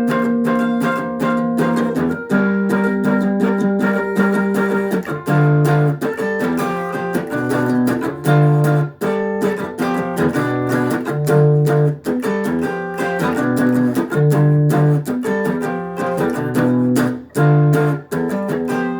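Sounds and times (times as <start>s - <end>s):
guitar chords strummed: 0.0s - 18.9s.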